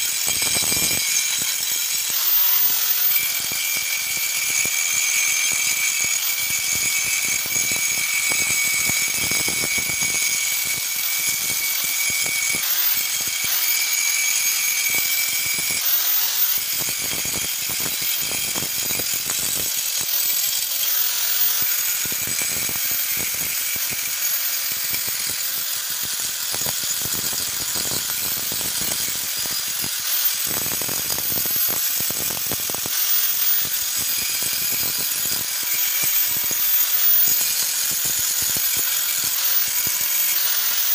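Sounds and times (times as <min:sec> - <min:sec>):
angle grinder grinding metal: 0:00.0 - 0:40.9.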